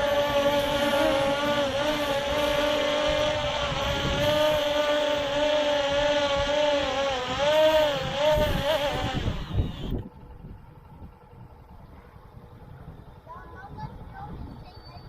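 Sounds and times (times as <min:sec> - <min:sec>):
drone propellers whining: 0:00.0 - 0:13.6
wind rumble on microphone: 0:00.0 - 0:15.0.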